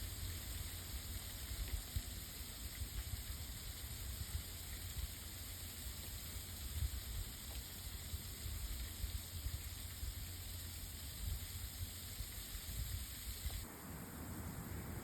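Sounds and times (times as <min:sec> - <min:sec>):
freezing rain hissing on ice: 0:00.0 - 0:15.0.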